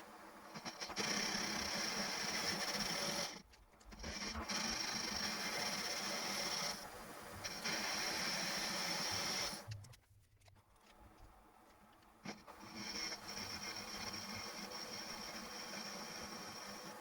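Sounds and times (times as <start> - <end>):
machine grinding with high whine: 0.0 - 9.7, 12.2 - 17.0.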